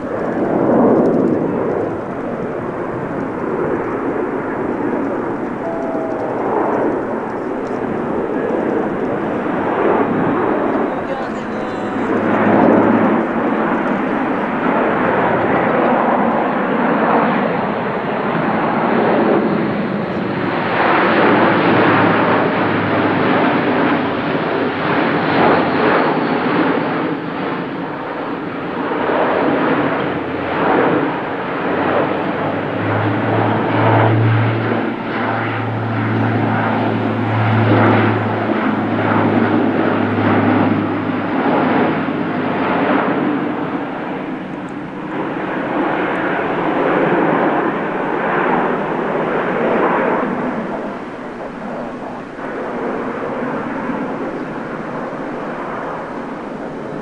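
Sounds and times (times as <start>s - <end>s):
low propeller hum: 0.0s - 57.0s
turboprop aircraft flying overhead: 0.0s - 57.0s.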